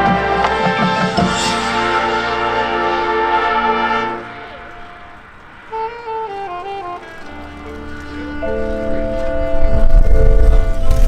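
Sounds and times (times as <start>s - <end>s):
marching band holding a chord: 0.0s - 11.0s.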